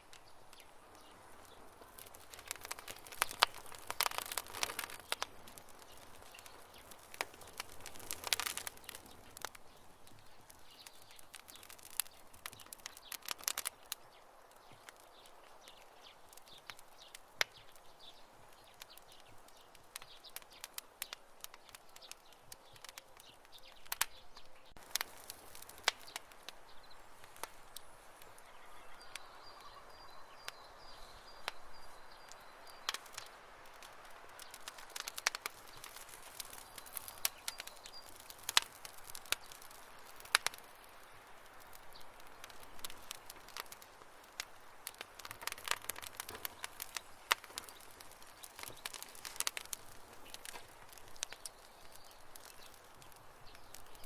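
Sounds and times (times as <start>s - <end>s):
campfire crackling and popping: 0.0s - 54.0s
soft hiss: 0.0s - 54.0s.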